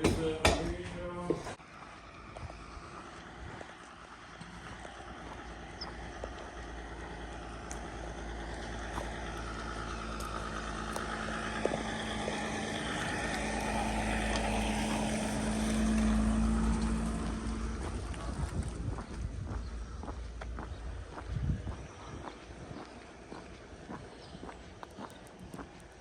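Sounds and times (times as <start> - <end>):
engine passing by: 1.6 - 26.0.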